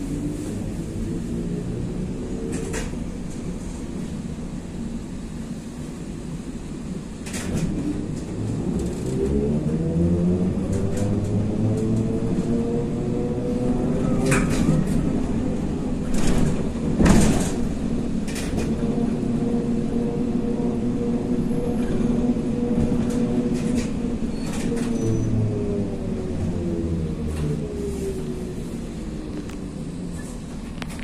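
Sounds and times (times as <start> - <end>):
road rumble: 0.0 - 31.0
trolleybus motor whine: 0.0 - 31.0.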